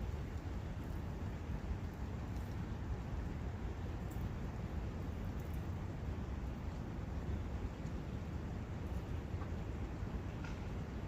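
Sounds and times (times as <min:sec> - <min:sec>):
brook water running: 0:00.0 - 0:11.0.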